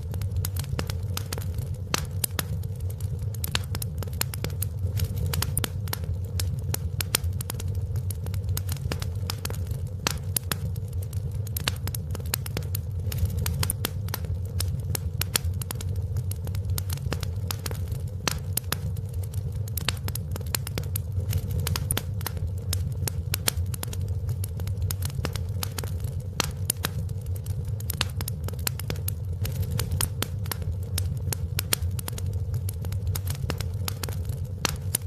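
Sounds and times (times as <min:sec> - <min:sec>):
fireplace fire crackling: 0:00.0 - 0:35.0
low rumble of burning fire: 0:00.0 - 0:35.0.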